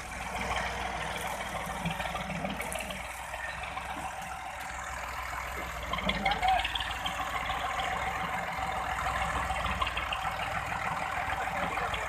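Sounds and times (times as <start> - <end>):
tractor engine rattling: 0.0 - 12.0.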